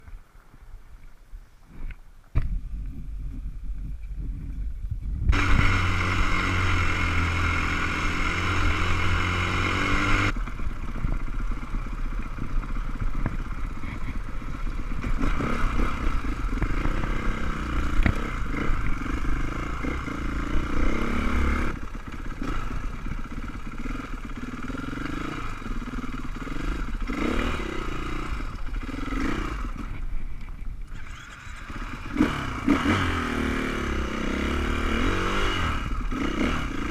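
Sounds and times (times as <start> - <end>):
motorcycle engine revving: 5.2 - 36.9.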